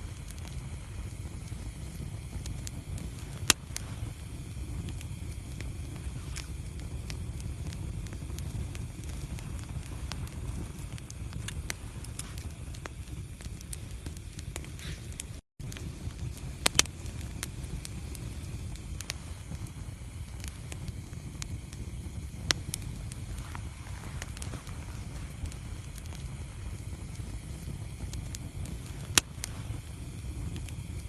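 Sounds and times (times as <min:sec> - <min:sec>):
fire crackles and pops: 0:00.0 - 0:31.0
low rumble of flame: 0:00.0 - 0:31.0.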